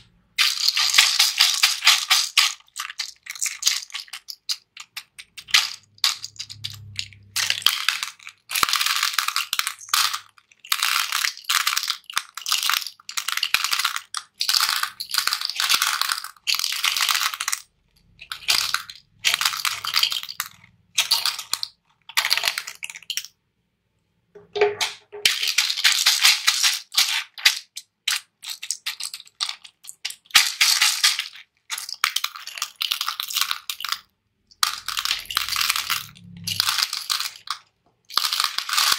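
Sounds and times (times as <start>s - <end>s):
hard candies rattling into plastic tray: 0.4s - 23.3s, 24.4s - 38.9s.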